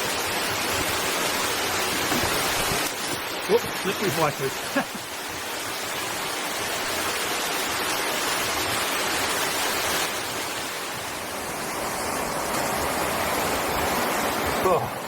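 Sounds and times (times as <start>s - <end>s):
water rushing over rock: 0.0s - 15.0s.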